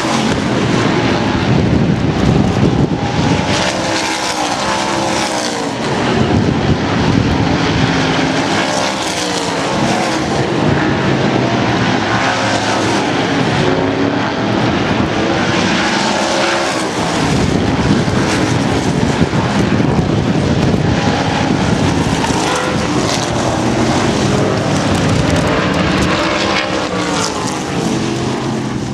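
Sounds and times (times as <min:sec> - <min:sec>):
race car engines passing: 0:00.0 - 0:28.9.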